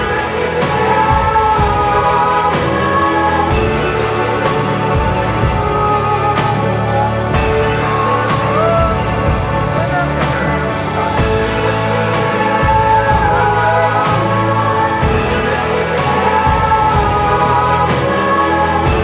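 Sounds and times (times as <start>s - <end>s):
background music with steady beat: 0.0s - 19.0s.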